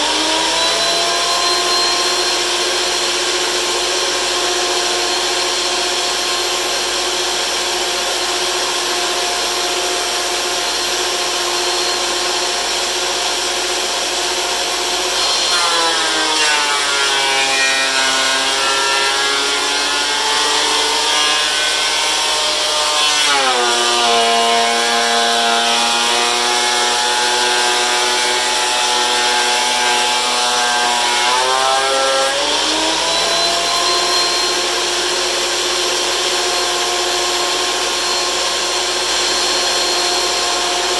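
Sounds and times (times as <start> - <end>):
planer cutting board: 0.0 - 40.9
thickness planer whining: 0.0 - 40.9.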